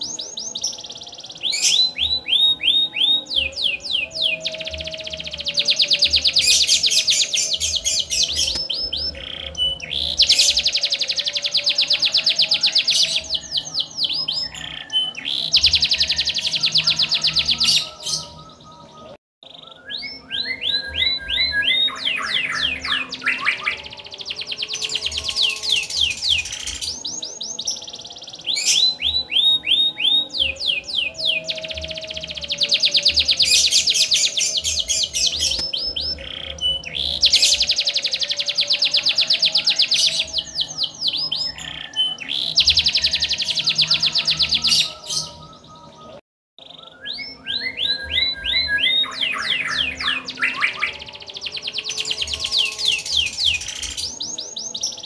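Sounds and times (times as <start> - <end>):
canary singing trills and whistles: 0.0 - 55.0.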